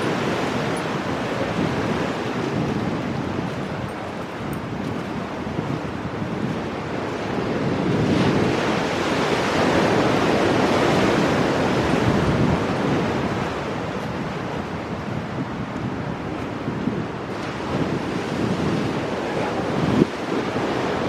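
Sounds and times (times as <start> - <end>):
ocean waves breaking on rocks: 0.0 - 21.0
wind on microphone: 0.0 - 21.0.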